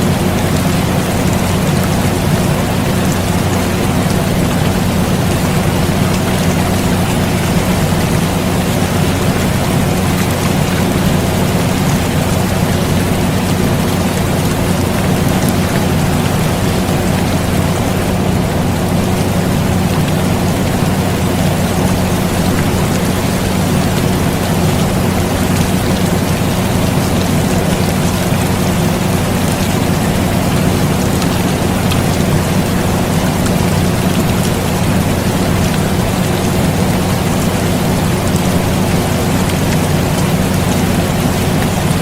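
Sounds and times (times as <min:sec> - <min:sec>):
air conditioner hum: 0:00.0 - 0:42.0
rain hiss: 0:00.0 - 0:42.0.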